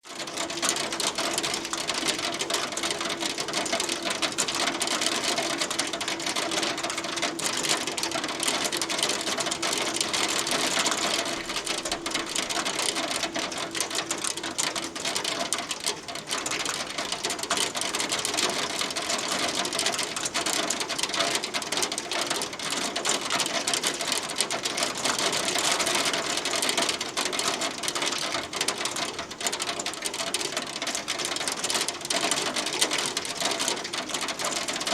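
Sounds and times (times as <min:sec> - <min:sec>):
hail clattering on hard surface: 0:00.1 - 0:34.9.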